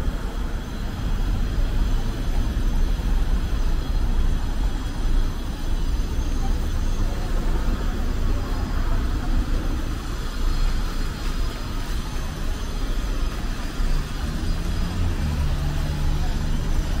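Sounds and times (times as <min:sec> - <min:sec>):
low engine hum: 0:00.0 - 0:17.0
passing vehicles rumble: 0:00.0 - 0:17.0.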